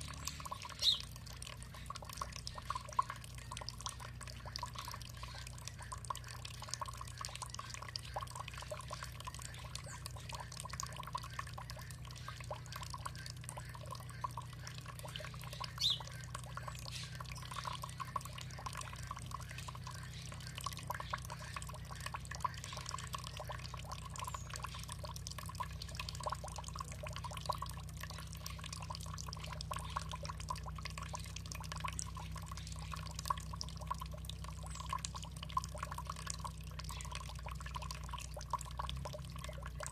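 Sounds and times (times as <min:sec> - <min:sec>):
steady low hum: 0:00.0 - 0:39.9
water dripping and trickling: 0:00.0 - 0:39.9.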